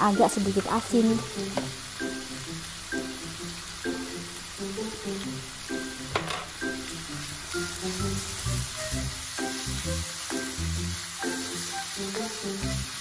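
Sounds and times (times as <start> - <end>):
background music: 0.0 - 13.0
beef sizzling in a pan: 0.0 - 13.0.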